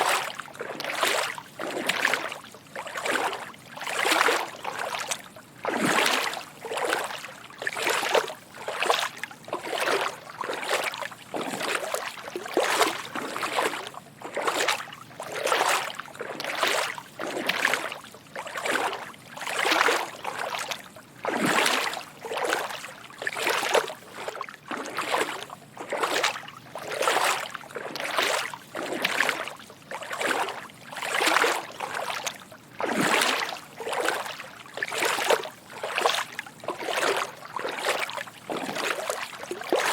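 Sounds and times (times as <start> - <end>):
footsteps sloshing through water: 0.0 - 39.9.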